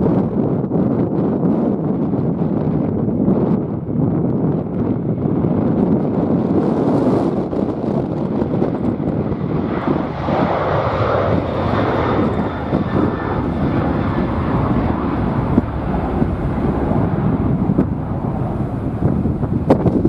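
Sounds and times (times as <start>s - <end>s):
jet airliner engines running: 0.0s - 20.0s
wind buffeting microphone: 0.0s - 20.0s.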